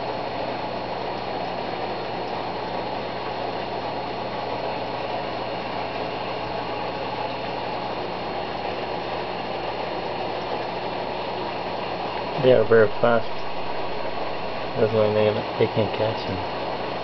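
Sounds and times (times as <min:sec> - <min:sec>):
aquarium pump hum: 0:00.0 - 0:17.0
bubbling water rushing: 0:00.0 - 0:17.0.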